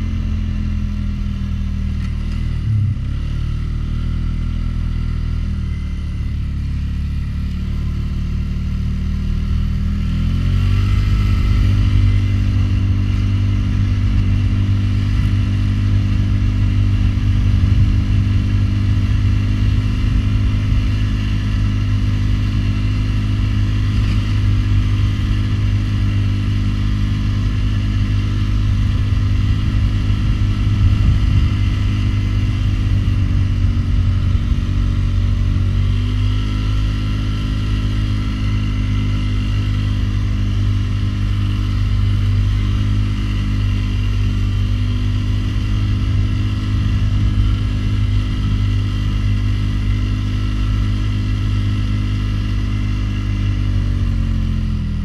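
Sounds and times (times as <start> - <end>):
atv engine under load: 1.9 - 55.0.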